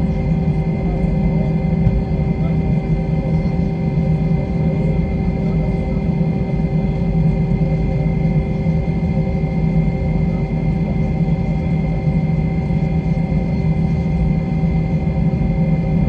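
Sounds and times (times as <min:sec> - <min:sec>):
jet engines rumbling and humming: 0:00.0 - 0:16.0.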